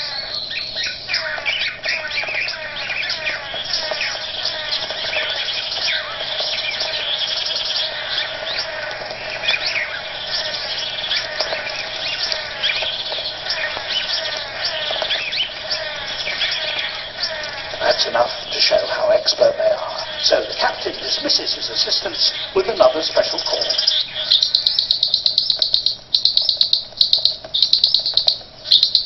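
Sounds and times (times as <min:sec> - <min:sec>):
birds chirping calls: 0:00.0 - 0:29.0.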